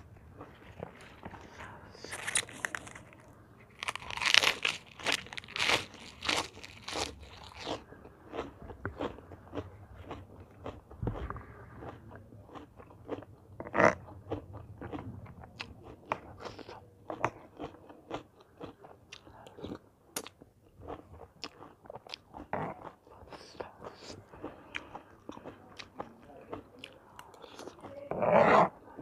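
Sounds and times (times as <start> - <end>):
chewing and crunching: 0.0 - 28.7.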